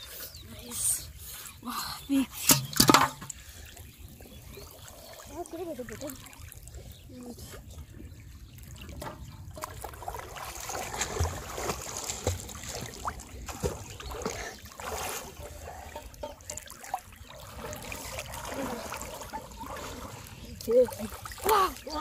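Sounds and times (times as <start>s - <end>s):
water sloshing and trickling: 0.0s - 22.0s.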